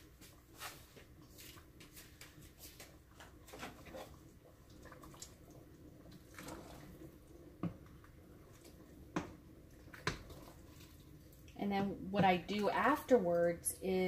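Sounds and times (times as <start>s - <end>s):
soft liquid sounds: 0.5s - 13.7s.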